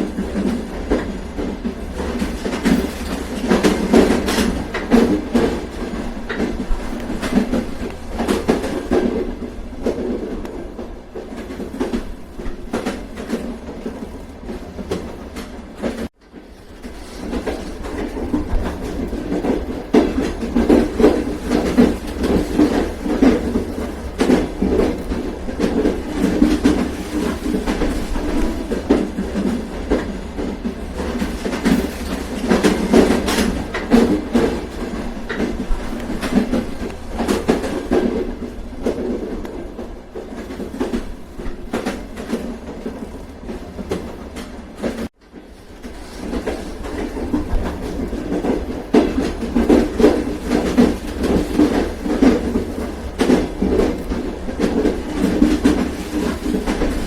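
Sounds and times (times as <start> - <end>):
train rumble: 0.0 - 57.0
train wheels clacking on rails: 0.0 - 57.0.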